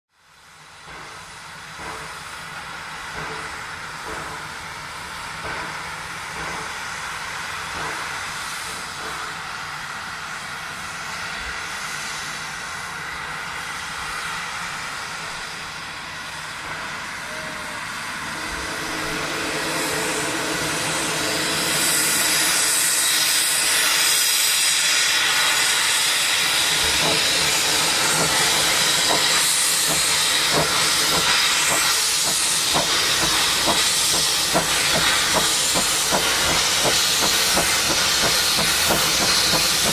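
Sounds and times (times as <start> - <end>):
steam hissing: 0.3 - 39.9
steam locomotive exhaust chuffs: 0.3 - 39.9.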